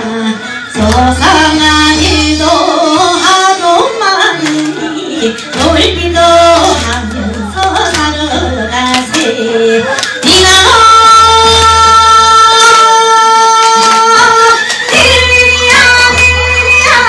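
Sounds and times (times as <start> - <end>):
woman singing into a microphone: 0.0 - 17.0.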